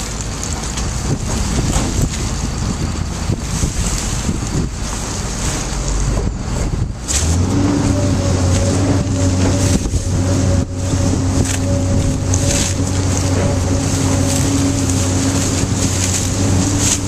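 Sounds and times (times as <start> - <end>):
hydraulic motor running: 1.0 - 17.0.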